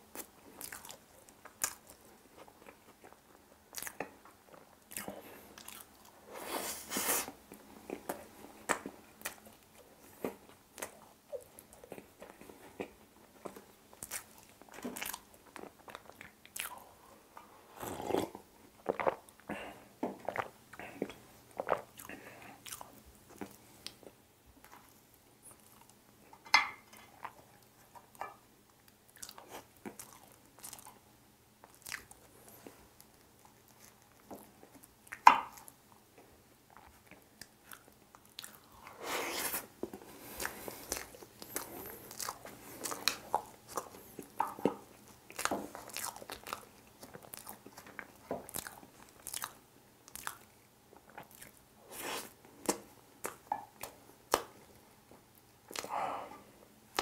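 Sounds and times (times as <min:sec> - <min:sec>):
person chewing: 0:00.1 - 0:17.0, 0:17.7 - 0:28.4, 0:29.1 - 0:31.0, 0:31.6 - 0:35.8, 0:36.7 - 0:54.7, 0:55.4 - 0:57.0.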